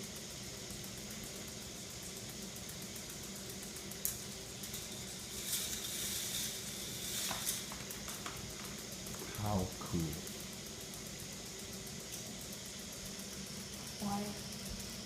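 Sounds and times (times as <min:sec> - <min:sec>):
toy motor running with fast ticking: 0:00.0 - 0:15.0.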